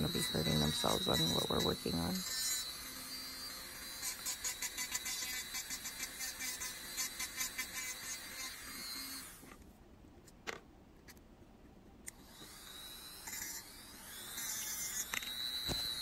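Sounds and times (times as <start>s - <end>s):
rotary tool grinding metal: 0.0s - 9.6s, 12.2s - 16.0s.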